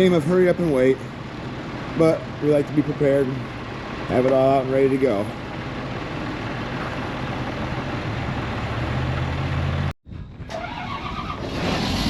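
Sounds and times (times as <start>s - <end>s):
different engine sound: 0.0s - 12.0s
farm machine engine running: 0.0s - 12.0s.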